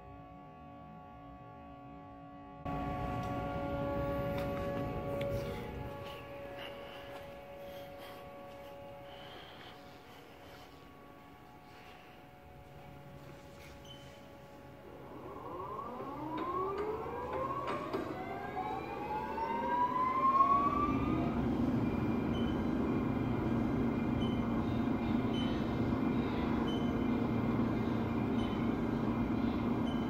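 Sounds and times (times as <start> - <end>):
lathe spindle whine and hum: 0.0 - 30.0.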